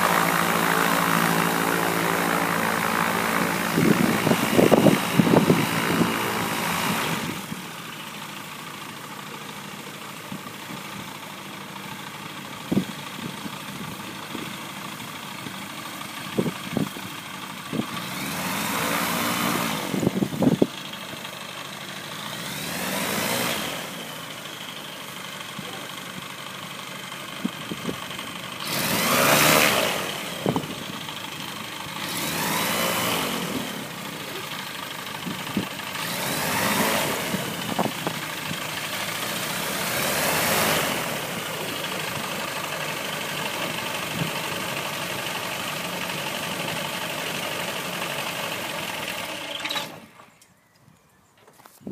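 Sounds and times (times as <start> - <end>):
engine throttle bursts: 0.0 - 50.4
propeller aircraft engine idling: 0.0 - 51.2.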